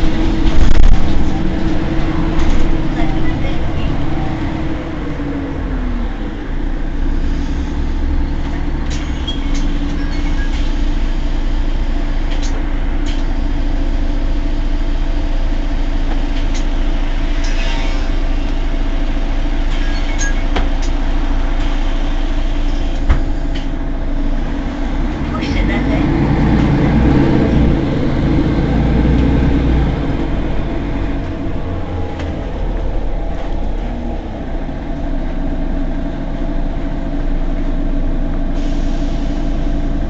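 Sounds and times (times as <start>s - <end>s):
bus engine idling: 0.0s - 40.0s.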